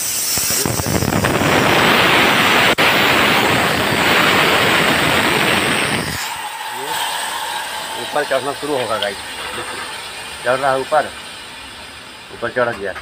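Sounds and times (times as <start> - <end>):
compressed air hissing from brake valve: 0.0 - 2.8, 3.7 - 12.6.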